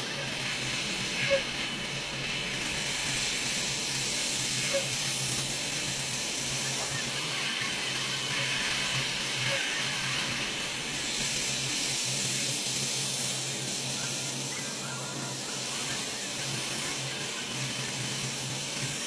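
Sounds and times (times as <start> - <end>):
spray guns hissing: 0.0 - 19.0.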